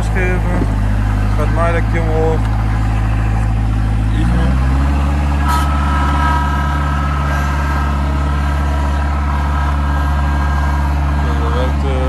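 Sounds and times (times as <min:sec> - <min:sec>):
diesel mower engine running: 0:00.0 - 0:12.0
steady high whine: 0:00.0 - 0:12.0.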